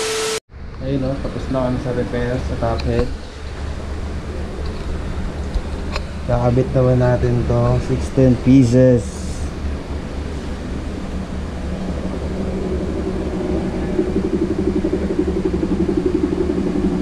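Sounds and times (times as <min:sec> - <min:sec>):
steady mechanical hum: 0:00.0 - 0:17.0
throbbing engine-like drone: 0:00.0 - 0:17.0.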